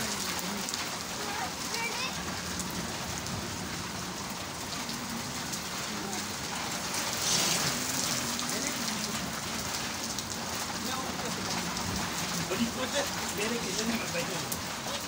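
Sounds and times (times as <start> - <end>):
rain pattering on wet concrete: 0.0 - 15.0.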